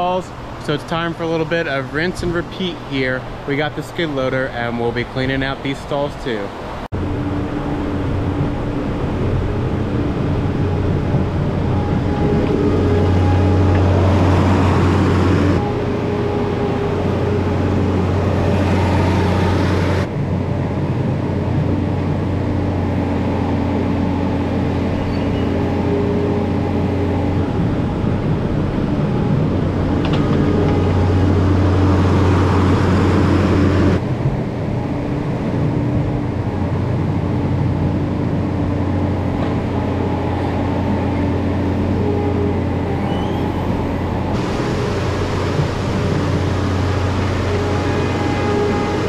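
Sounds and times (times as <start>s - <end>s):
skid loader engine running: 7.0s - 49.0s.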